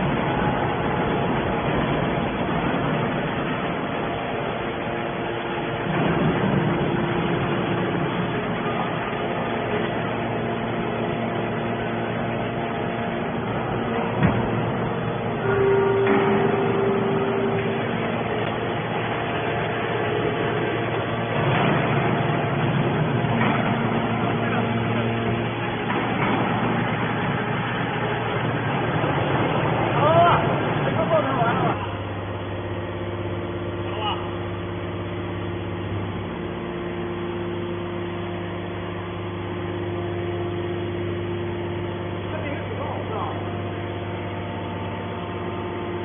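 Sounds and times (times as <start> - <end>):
hydraulic baler humming: 0.0 - 46.0.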